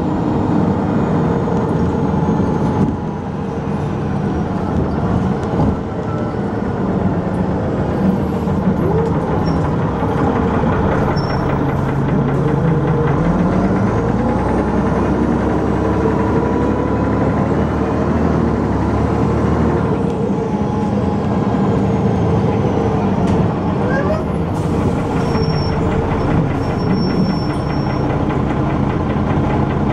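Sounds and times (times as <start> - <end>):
bus engine revving under load: 0.0 - 29.9.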